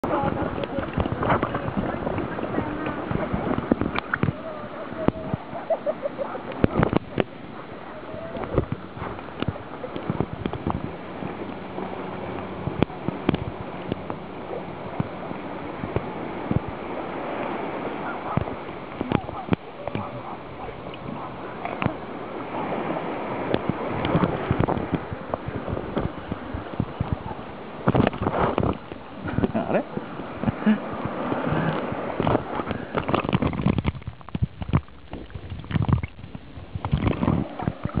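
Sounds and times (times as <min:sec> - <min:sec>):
muffled underwater sound: 0:00.0 - 0:38.0
sharp water splashes: 0:00.0 - 0:38.0
small waves lapping: 0:00.0 - 0:38.0.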